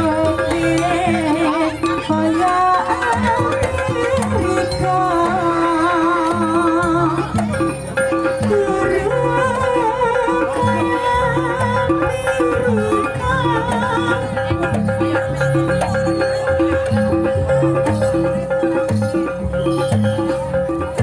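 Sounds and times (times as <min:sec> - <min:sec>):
drum pattern: 0:00.0 - 0:21.0
wavering vibrato melody: 0:00.0 - 0:21.0.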